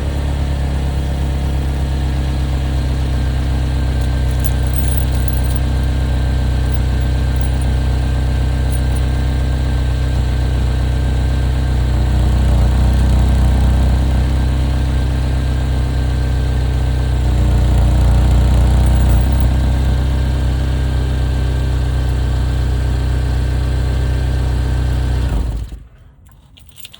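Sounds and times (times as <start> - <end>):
car engine idling with exhaust leak: 0.0 - 26.9.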